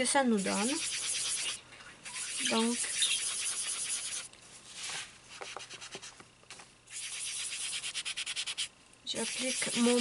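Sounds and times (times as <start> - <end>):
pad rubbing pastel on paper: 0.3 - 6.2, 6.9 - 10.0.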